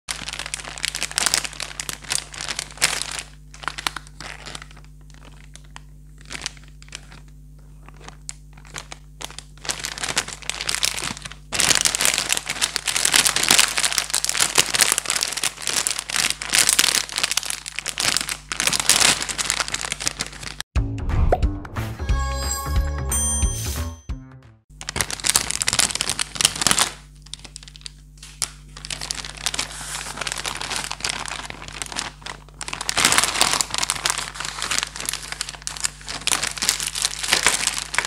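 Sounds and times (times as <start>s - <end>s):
plastic bag crinkling: 0.1s - 20.6s, 24.7s - 38.0s.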